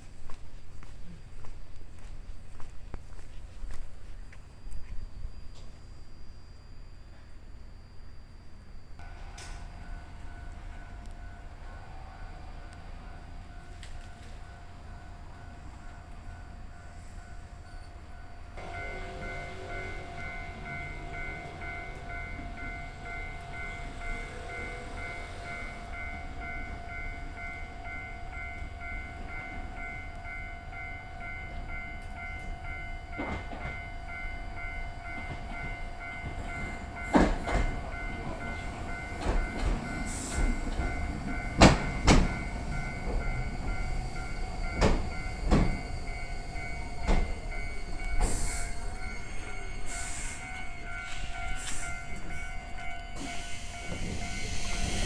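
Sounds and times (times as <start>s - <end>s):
rail vehicle hum: 0.0s - 55.0s.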